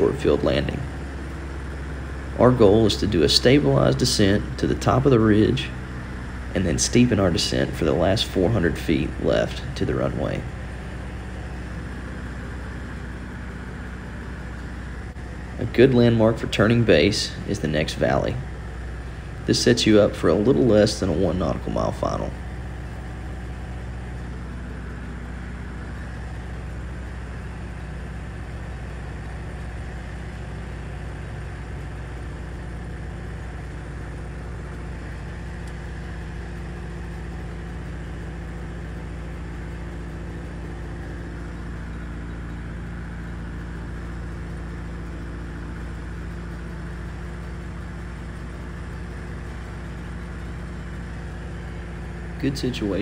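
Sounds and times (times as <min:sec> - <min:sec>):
airplane engine and propeller drone: 0:00.0 - 0:53.0.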